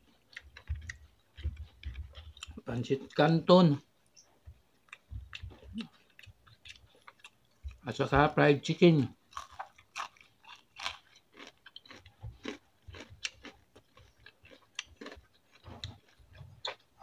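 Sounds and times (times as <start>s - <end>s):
person chewing crunchy food: 0.0s - 3.3s, 4.1s - 7.9s, 9.2s - 17.0s.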